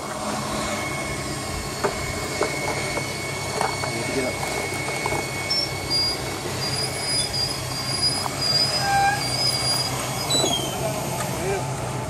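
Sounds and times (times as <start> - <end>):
high squeals: 0.4 - 11.1.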